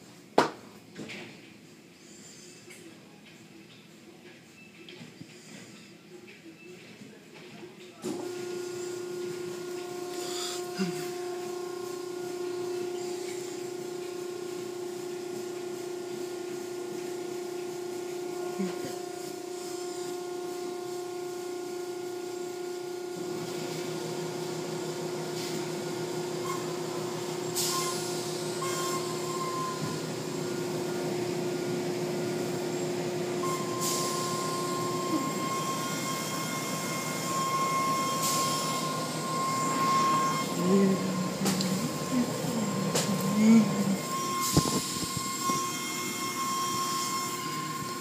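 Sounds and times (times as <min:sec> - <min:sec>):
car wash machinery hum: 0:08.0 - 0:48.0.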